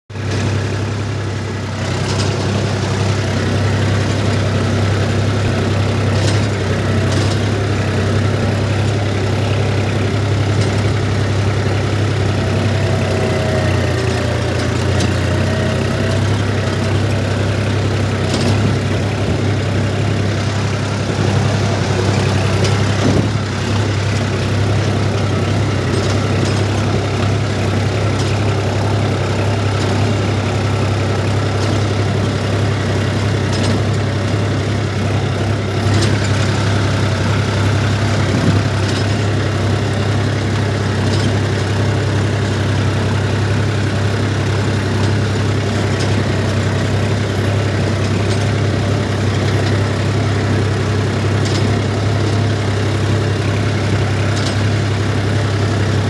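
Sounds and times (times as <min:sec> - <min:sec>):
tractor diesel engine humming: 0:00.1 - 0:56.0.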